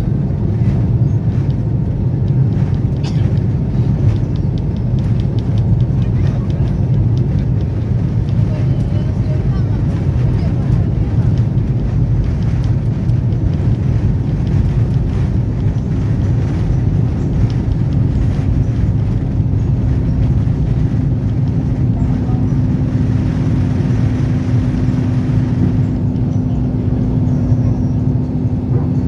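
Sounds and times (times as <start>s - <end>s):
jet engine and airflow rumble: 0.0s - 29.0s
steady hum: 0.0s - 29.0s.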